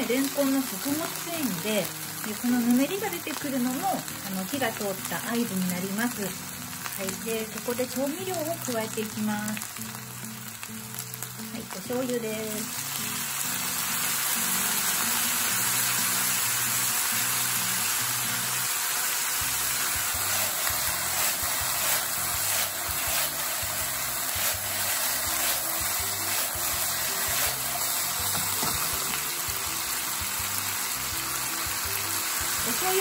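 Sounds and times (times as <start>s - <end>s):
background music: 0.0s - 33.0s
lotus root sizzling in oil: 0.0s - 33.0s.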